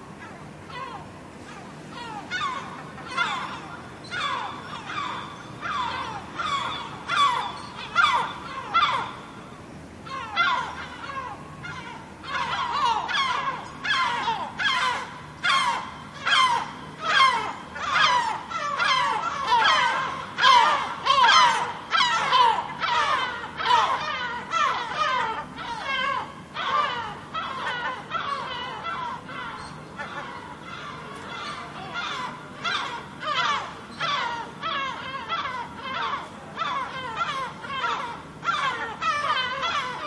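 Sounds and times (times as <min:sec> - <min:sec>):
seagulls calling: 0:00.0 - 0:40.0.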